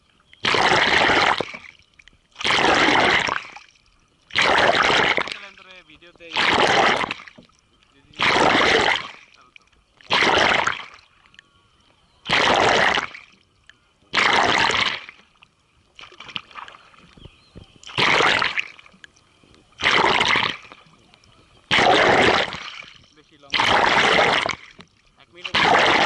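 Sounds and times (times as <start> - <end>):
kayak paddle splashing in water: 0.0 - 11.4, 12.0 - 26.0.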